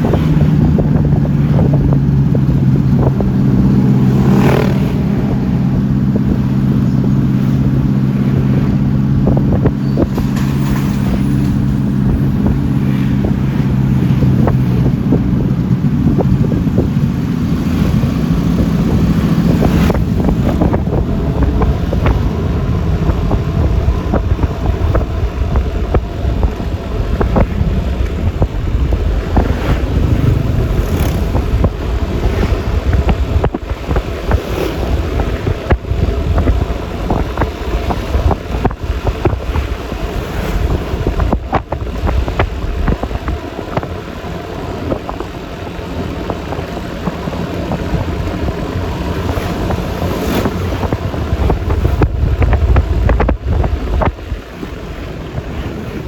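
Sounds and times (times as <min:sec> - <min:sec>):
road noise: 0:00.0 - 0:56.0
scooter engine humming: 0:00.0 - 0:56.0
wind rumbling on microphone: 0:00.0 - 0:56.0.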